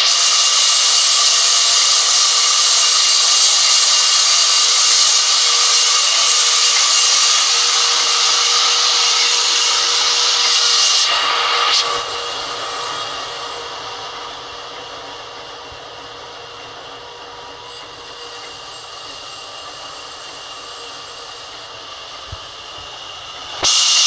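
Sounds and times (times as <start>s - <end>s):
band saw cutting log: 0.0s - 24.0s.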